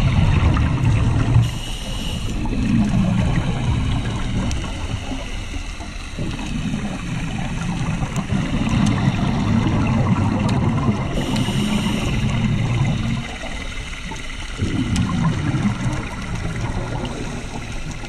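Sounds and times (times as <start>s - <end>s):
diver's exhaled air bubbling: 0.0s - 18.0s
muffled underwater rumble: 0.0s - 18.0s.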